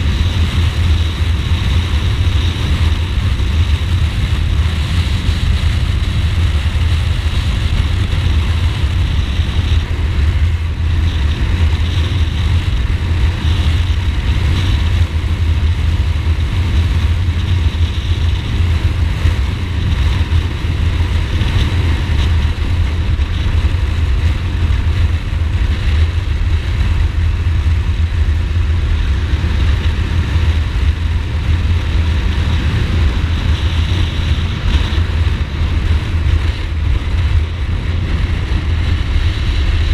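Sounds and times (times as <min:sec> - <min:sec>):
motorcycle engine rumble: 0:00.0 - 0:39.9
wind rushing on microphone: 0:00.0 - 0:39.9.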